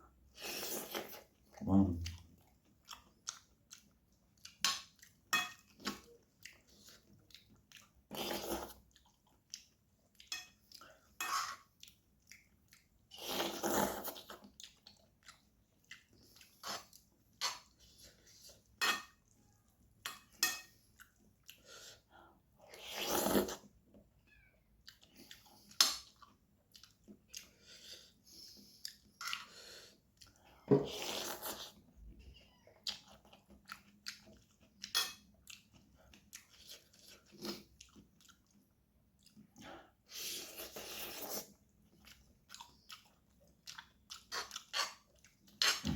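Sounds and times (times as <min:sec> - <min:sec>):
person chewing crunchy noodles: 0:00.2 - 0:19.8, 0:20.7 - 0:23.9, 0:24.8 - 0:32.0, 0:32.7 - 0:45.9.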